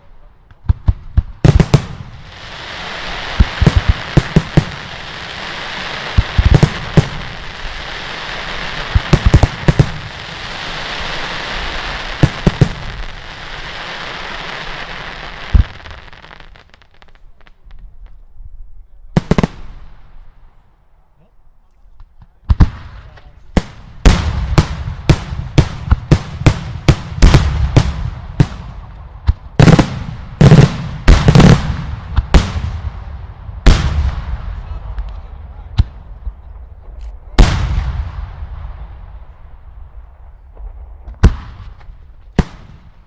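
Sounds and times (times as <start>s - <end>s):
fireworks crackling: 0.0s - 18.4s, 19.2s - 20.5s, 22.0s - 43.0s
fireworks bangs: 0.5s - 18.2s, 19.1s - 20.6s, 22.0s - 43.0s.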